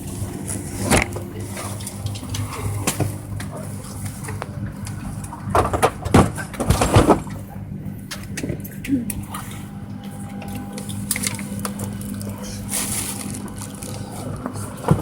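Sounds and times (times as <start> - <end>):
low hum of parked airliner: 0.0 - 15.0.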